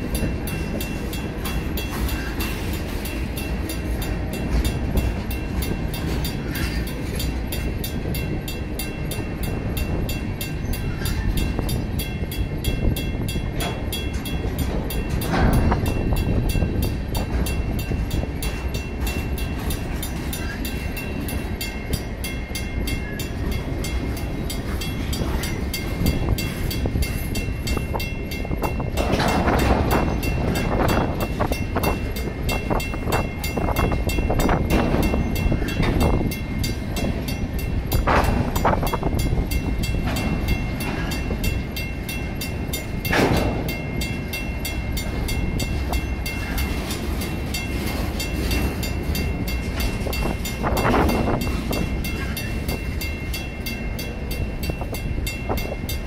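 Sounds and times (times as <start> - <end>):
crossing signal bell ringing: 0.0 - 56.0
train clanks and squeals: 0.0 - 56.0
train wheels rumbling on rails: 0.0 - 56.0.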